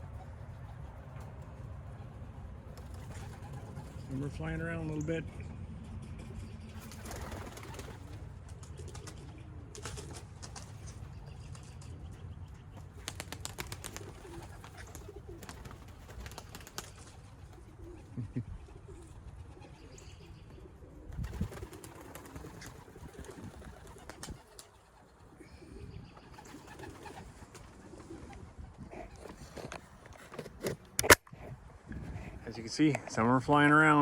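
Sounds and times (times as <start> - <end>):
pigeons cooing: 0.0 - 5.0, 5.6 - 32.7.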